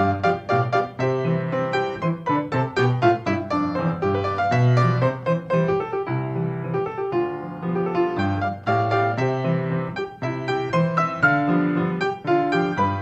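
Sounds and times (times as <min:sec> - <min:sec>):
solo grand piano: 0:00.0 - 0:13.0.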